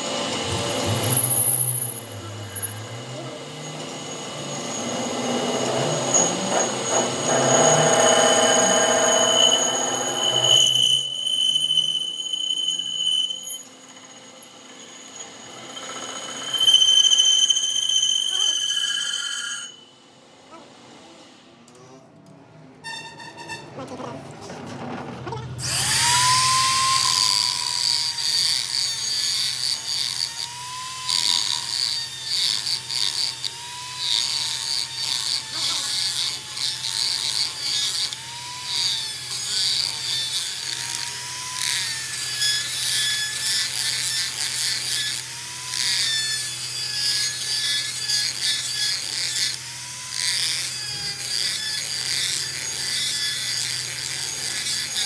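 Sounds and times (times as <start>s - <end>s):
power tool motor whine: 0.0s - 19.9s, 25.6s - 55.0s.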